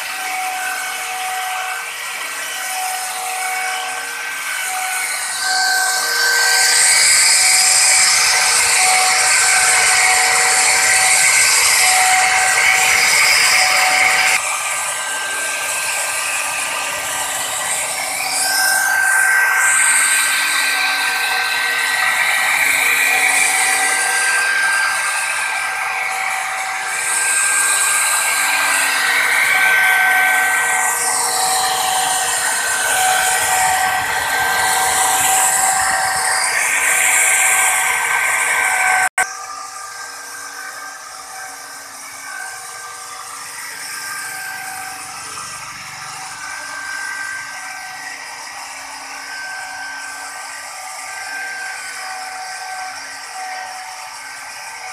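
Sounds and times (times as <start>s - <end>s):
electric router whining: 0.0s - 54.9s.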